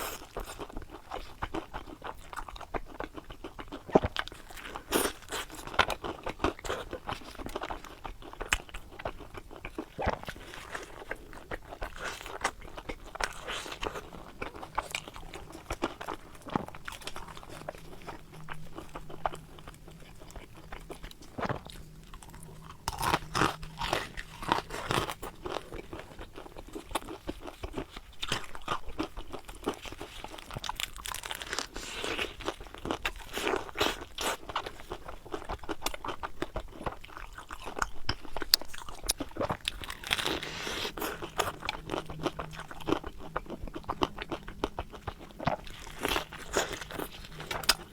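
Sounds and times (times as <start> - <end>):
crunchy chewing of fried food: 0.0 - 47.9.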